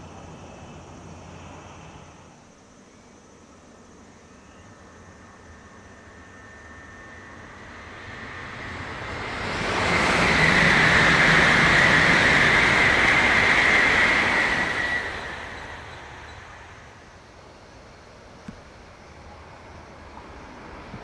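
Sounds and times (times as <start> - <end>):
high-speed train rushing roar: 0.0 - 21.0.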